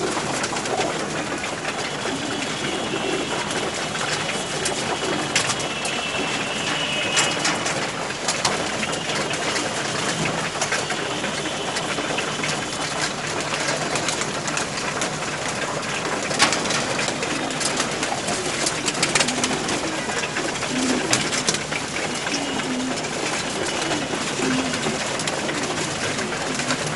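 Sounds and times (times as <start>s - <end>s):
pigeons cooing: 0.0s - 26.9s
wings fluttering: 0.0s - 26.9s.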